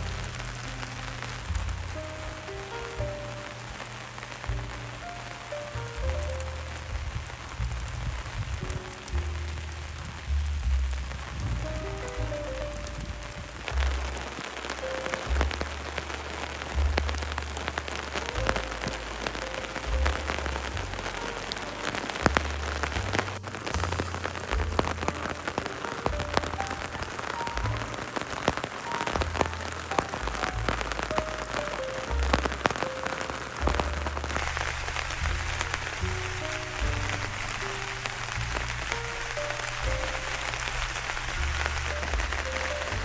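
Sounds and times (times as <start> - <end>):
background music with bass: 0.0 - 43.0
raindrops tapping: 0.0 - 43.0.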